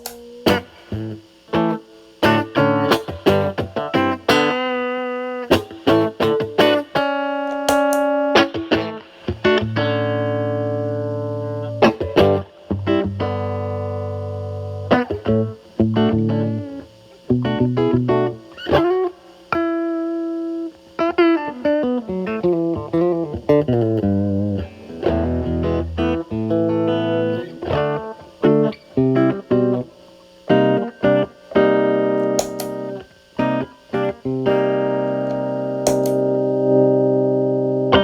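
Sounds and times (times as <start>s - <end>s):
distorted electric guitar playing: 0.0s - 38.0s.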